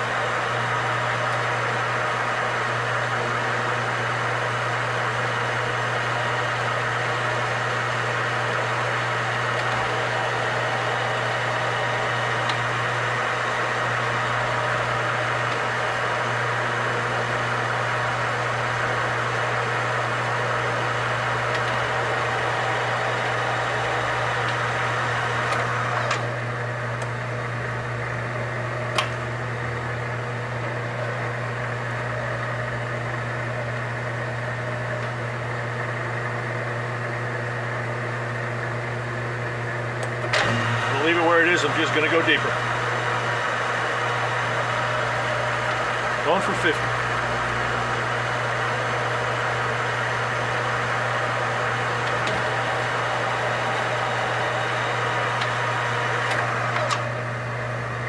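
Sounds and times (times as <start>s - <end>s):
metal lathe motor hum and whir: 0.0s - 58.0s.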